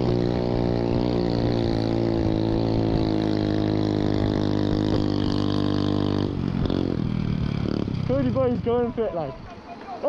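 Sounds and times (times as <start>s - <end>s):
minibike engine running: 0.0s - 10.0s.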